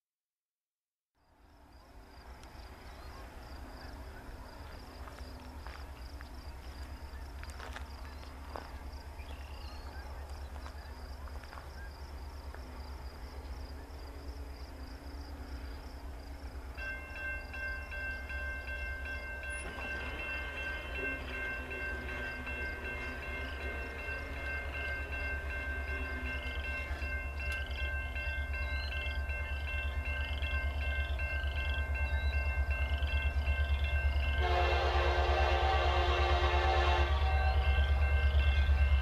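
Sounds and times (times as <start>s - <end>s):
crickets chirping: 1.2s - 39.0s
low train rumble: 1.2s - 39.0s
railroad crossing warning bell: 2.6s - 39.0s.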